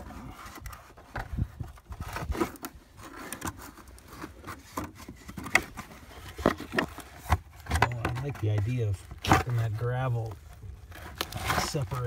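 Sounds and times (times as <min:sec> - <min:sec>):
camera rubbing against clothing: 0:00.0 - 0:12.0.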